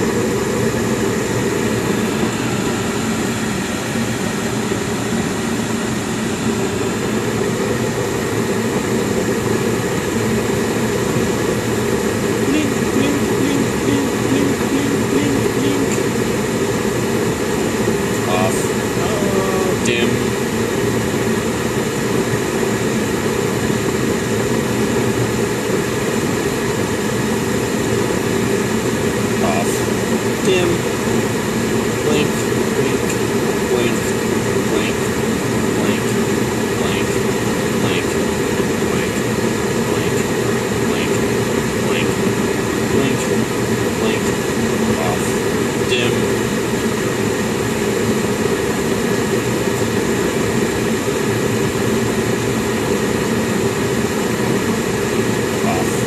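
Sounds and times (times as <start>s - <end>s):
gas furnace rushing hum: 0.0s - 56.0s.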